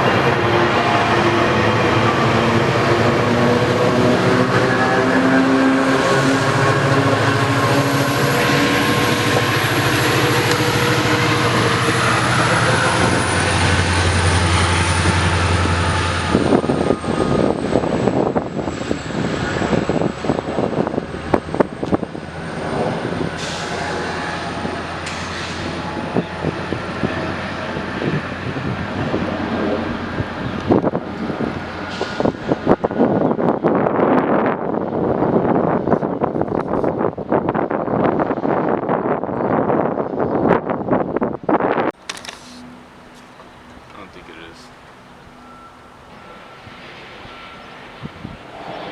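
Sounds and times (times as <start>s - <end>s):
train clanking on track: 0.0s - 33.2s, 42.0s - 48.9s
diesel locomotive engine drone: 0.0s - 48.9s.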